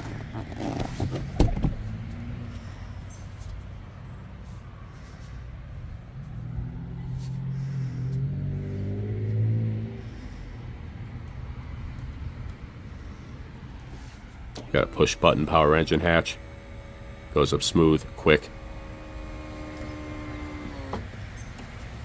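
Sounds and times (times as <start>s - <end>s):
motor vehicle engine hum: 0.0s - 22.0s.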